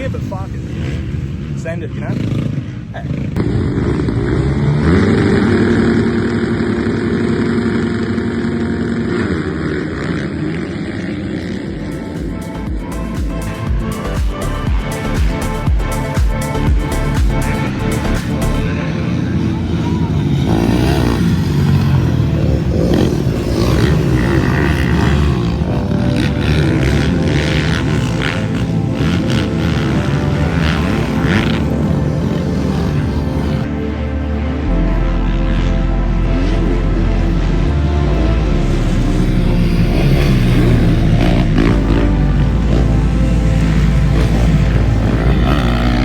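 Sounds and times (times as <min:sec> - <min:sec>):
motocross bike engine revving: 0:00.0 - 0:46.0.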